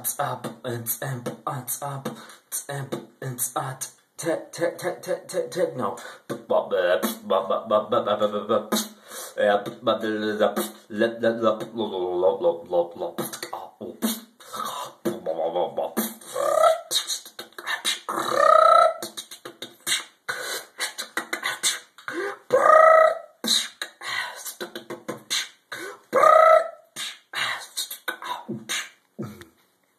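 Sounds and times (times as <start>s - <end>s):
beatboxing mouth percussion: 0.0s - 29.6s.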